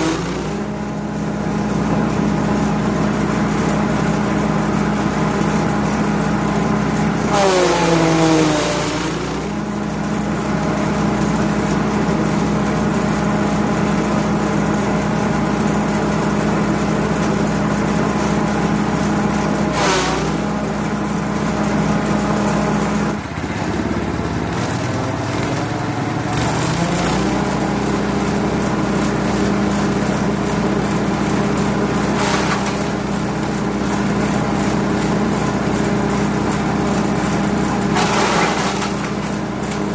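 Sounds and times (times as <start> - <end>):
grass chopper cutting noise: 0.0 - 39.9
petrol engine running at high speed: 0.0 - 39.9.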